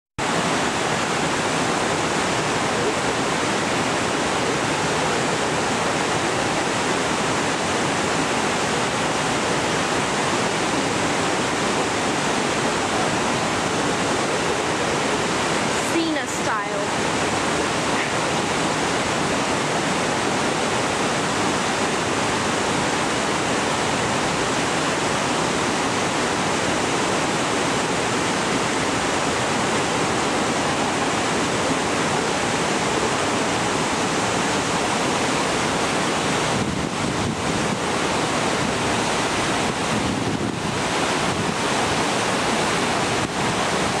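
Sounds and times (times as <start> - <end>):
flowing water rushing: 0.2 - 44.0.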